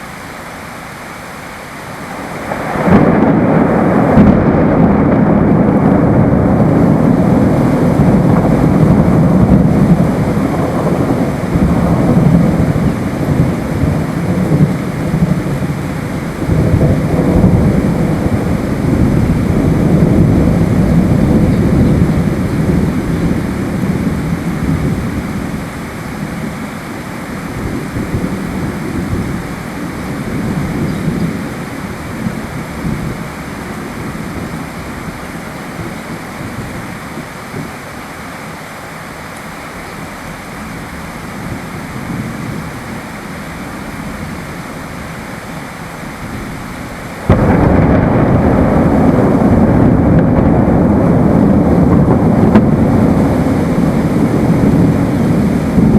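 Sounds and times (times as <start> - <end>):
steady rain: 0.0 - 55.9
rolling thunder: 2.1 - 37.8, 46.1 - 55.9.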